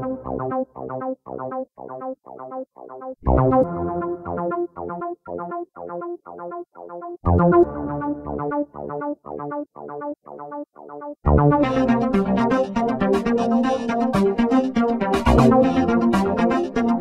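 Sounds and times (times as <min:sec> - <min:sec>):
clipped chords music: 0:00.0 - 0:17.0.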